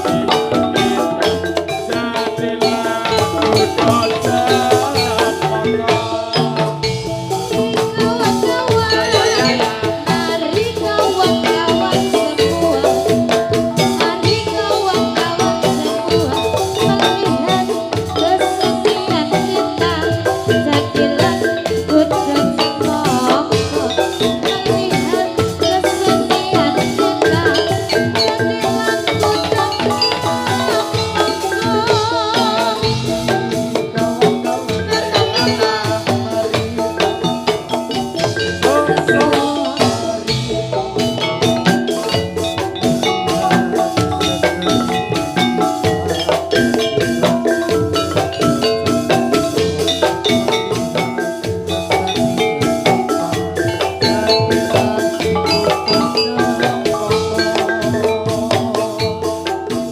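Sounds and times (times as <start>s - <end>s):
drums: 0.0s - 59.9s
ringing metallophones: 0.0s - 59.9s
wavering melody line: 0.0s - 59.9s.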